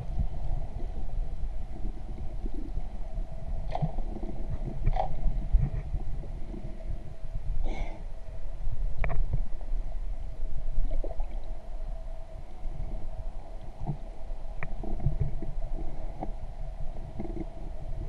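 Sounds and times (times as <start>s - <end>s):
muffled underwater rumble: 0.0s - 18.0s
steady hum: 0.0s - 18.0s.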